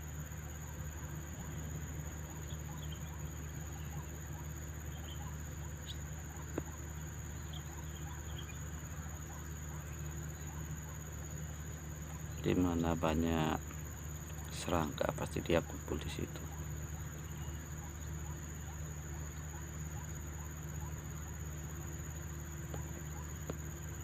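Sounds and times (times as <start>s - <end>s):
steady low hum: 0.0s - 24.0s
small birds chirping: 0.5s - 24.0s.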